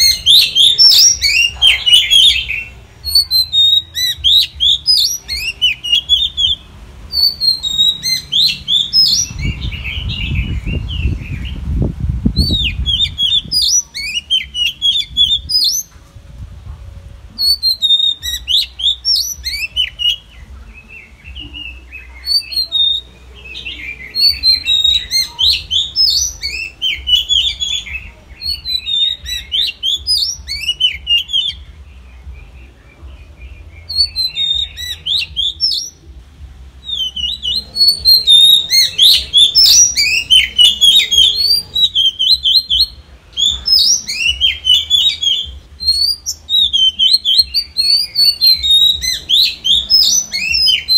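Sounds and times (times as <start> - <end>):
bird singing whistled phrases: 0.0 - 11.6, 12.4 - 15.9, 17.4 - 31.7, 32.3 - 36.0, 36.8 - 50.9.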